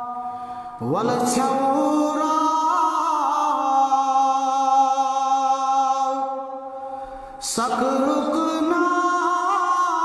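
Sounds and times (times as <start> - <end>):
man chanting unaccompanied: 0.8 - 6.4, 7.4 - 10.0.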